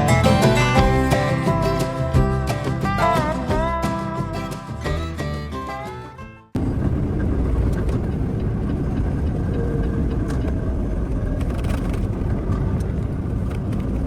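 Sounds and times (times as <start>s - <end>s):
semi truck engine and tyre rumble: 0.0s - 14.0s.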